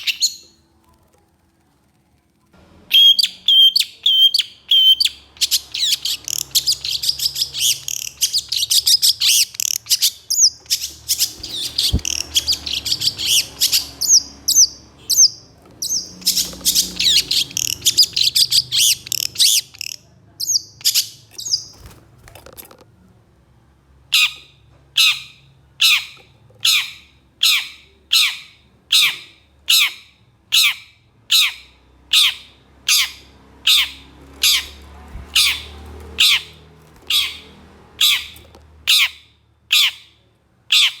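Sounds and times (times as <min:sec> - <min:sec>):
harsh repeated bird calls: 0:00.0 - 0:00.7, 0:02.9 - 0:22.0, 0:24.1 - 0:41.0.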